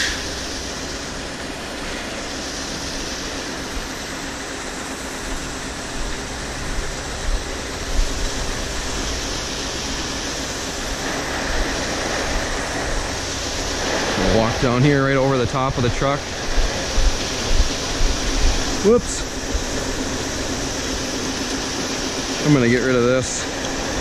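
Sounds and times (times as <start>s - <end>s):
grain equipment rumbling: 0.0s - 24.0s
grain pouring from a spout: 0.0s - 24.0s.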